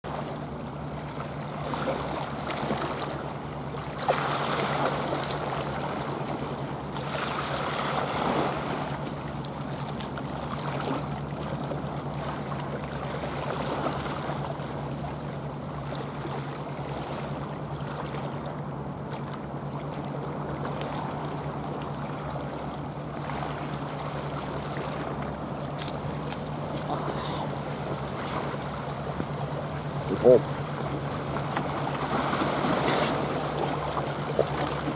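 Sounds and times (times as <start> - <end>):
steady low hum: 0.1 - 34.9
waves lapping on rocky shore: 0.1 - 34.9.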